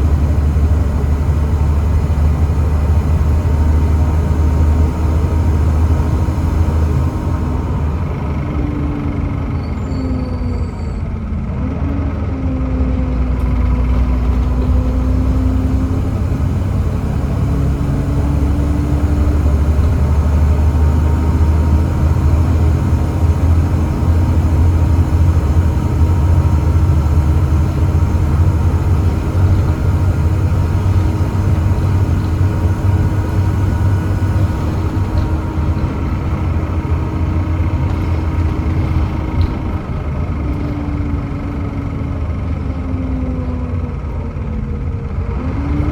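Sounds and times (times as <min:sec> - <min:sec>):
bus diesel engine drone: 0:00.0 - 0:45.9.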